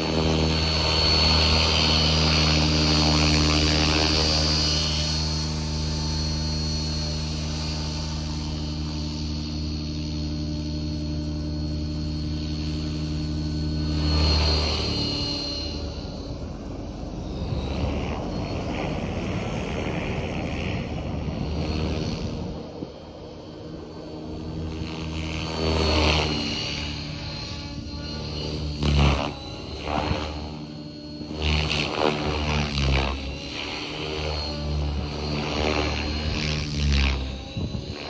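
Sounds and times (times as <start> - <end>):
helicopter rotor hum: 0.0 - 38.0
thin high whine: 0.0 - 38.0.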